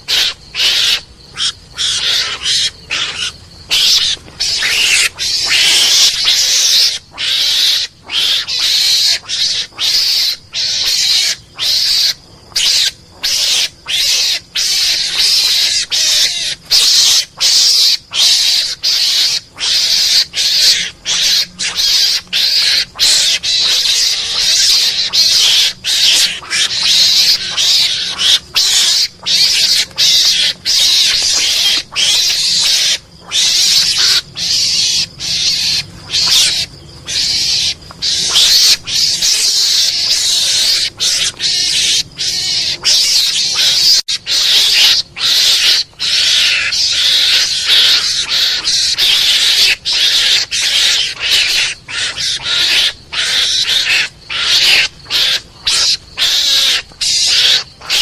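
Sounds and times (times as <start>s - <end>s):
mongoose screeching calls: 0.0s - 58.0s.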